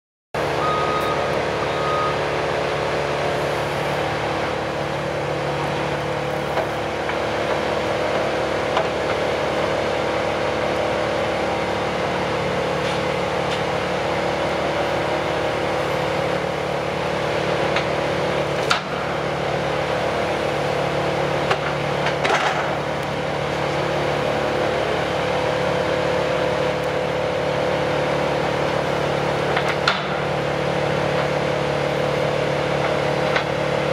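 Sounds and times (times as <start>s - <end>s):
heavy diesel machinery droning: 0.4s - 33.9s.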